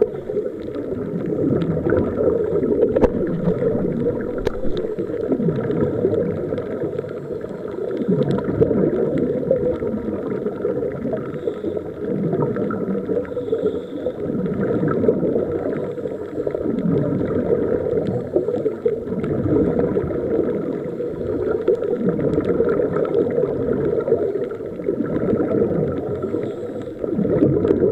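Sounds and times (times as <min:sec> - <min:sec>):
underwater bubbles gurgling: 0:00.0 - 0:27.9.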